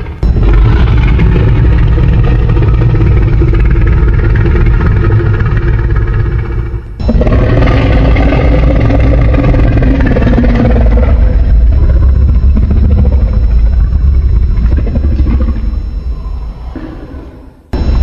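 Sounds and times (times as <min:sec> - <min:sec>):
loud heavy monster rumble: 0:00.0 - 0:18.0.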